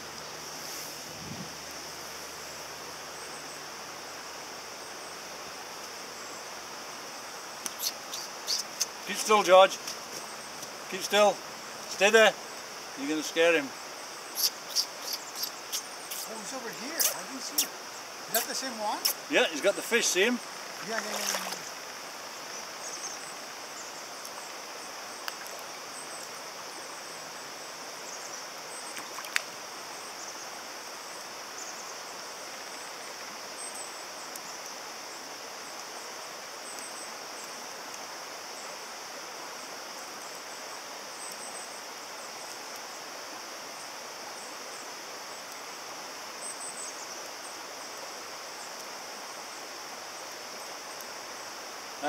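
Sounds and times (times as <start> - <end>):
stream water flowing: 0.0 - 52.0.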